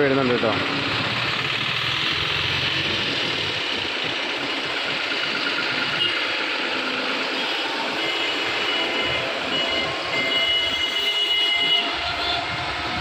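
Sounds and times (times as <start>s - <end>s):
lorry diesel engine passing: 0.0s - 13.0s.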